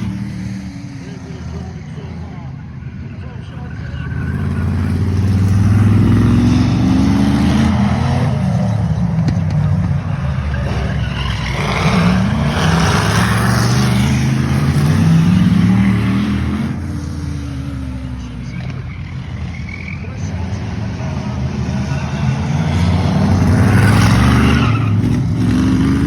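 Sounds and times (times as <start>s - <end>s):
racing car engines passing: 0.0s - 26.0s.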